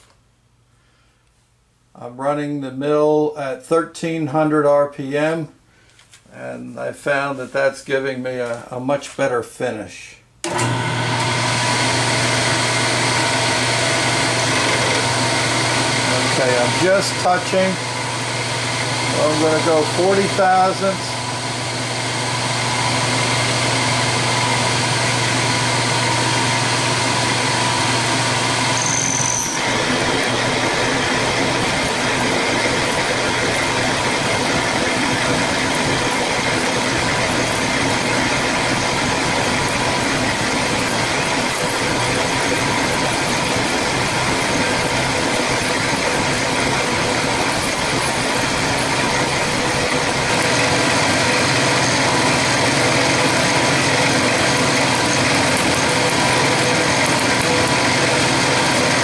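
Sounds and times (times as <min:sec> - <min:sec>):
milling machine cutting steel: 0:10.5 - 0:59.0.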